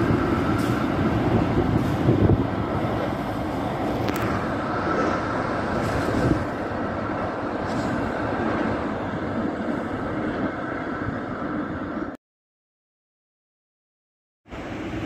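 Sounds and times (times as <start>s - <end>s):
diesel train engine rumbling: 0.0s - 12.2s, 14.5s - 15.0s.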